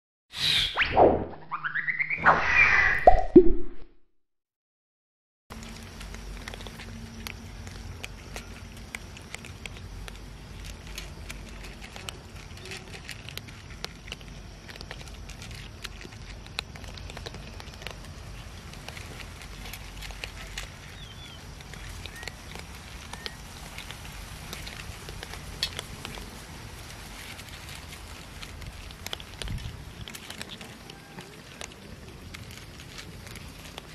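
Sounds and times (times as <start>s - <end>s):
cats crunching dry food: 5.5s - 33.9s.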